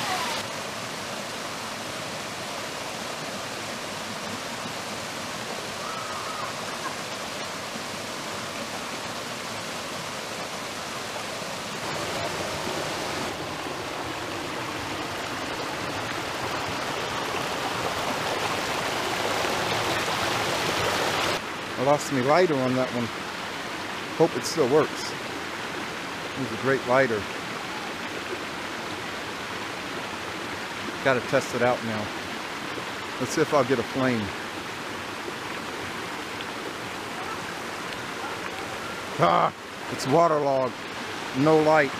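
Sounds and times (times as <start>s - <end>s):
waterfall rushing and splashing: 0.0s - 41.9s.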